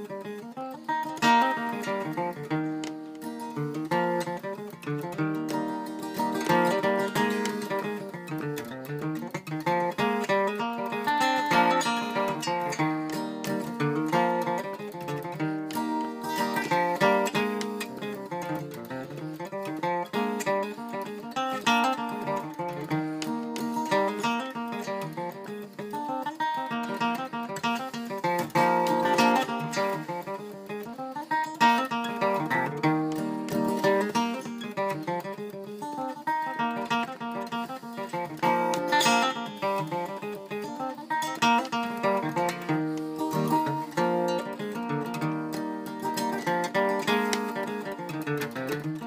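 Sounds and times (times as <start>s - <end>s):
acoustic guitar picking and strumming: 0.0s - 49.0s.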